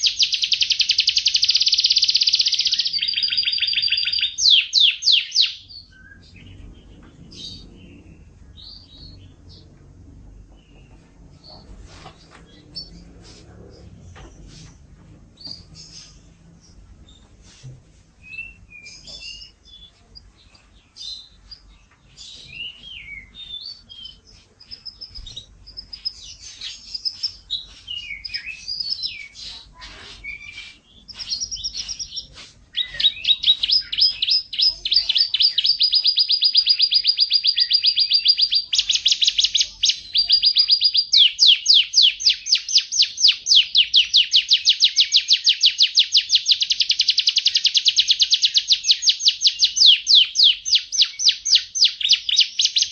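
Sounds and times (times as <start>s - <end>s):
canary singing and trilling: 0.0s - 14.8s, 15.4s - 17.6s, 18.2s - 52.9s.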